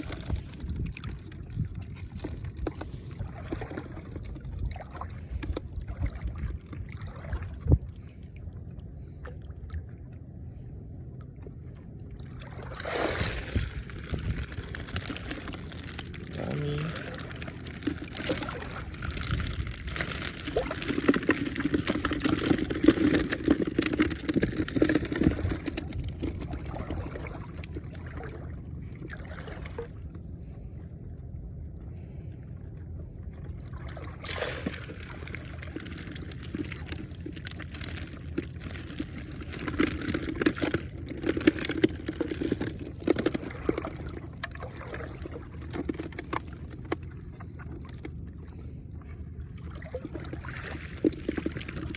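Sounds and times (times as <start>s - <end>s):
water splashing and sloshing: 0.0s - 51.9s.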